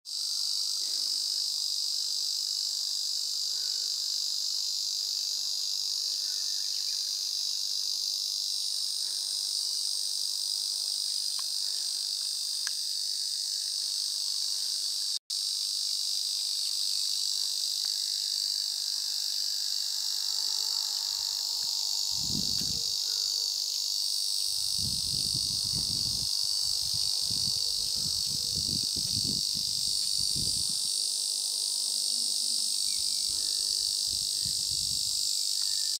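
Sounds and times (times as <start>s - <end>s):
cicadas buzzing: 0.1s - 36.0s.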